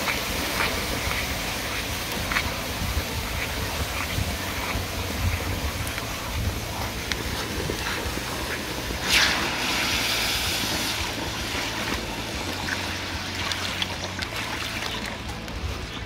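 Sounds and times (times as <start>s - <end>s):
water pouring and splashing: 0.0s - 16.0s.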